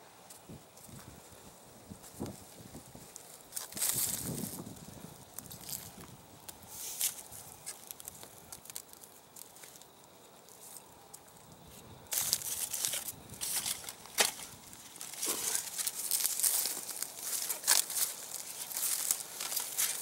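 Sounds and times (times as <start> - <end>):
dry stalks and snow crunching: 0.2 - 20.0.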